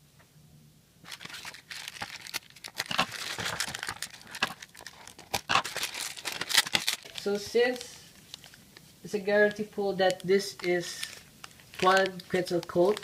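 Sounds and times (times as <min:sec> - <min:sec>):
foil pack crinkling: 0:01.0 - 0:08.8, 0:10.0 - 0:13.0.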